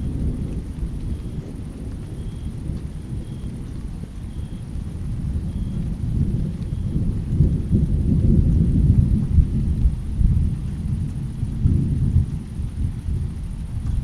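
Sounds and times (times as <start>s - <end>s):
distant thunder rumbling: 0.0s - 14.0s
faint rain hiss: 0.0s - 14.0s.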